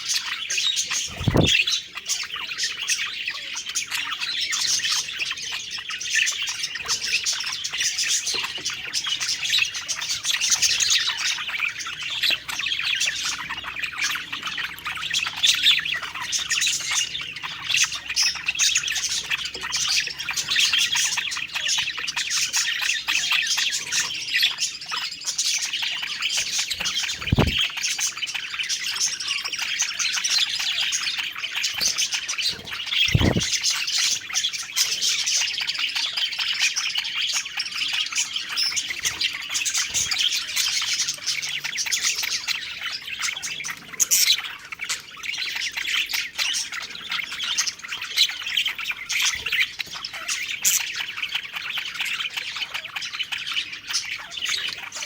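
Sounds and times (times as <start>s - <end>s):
budgerigars chirping: 0.0s - 55.0s.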